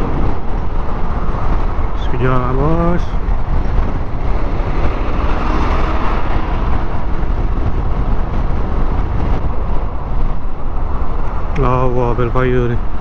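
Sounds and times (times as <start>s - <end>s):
road noise: 0.0s - 13.0s
wind rushing on microphone: 0.0s - 13.0s.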